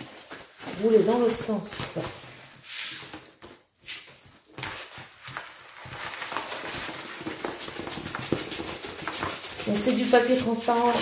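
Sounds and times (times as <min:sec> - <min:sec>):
plastic film rustling and crinkling: 0:00.0 - 0:11.0.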